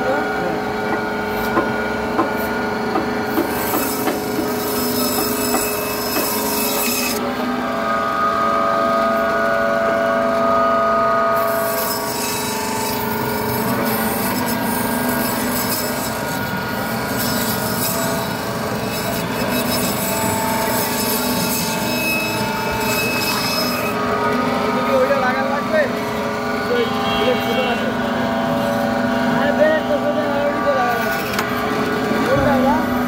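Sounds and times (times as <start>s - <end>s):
band saw humming: 0.0s - 33.0s
saw cutting through fish: 0.1s - 8.0s, 11.4s - 33.0s.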